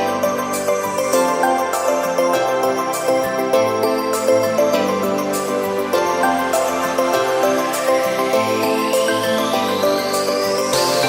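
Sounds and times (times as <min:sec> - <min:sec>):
soft melody over light beat: 0:00.0 - 0:11.0.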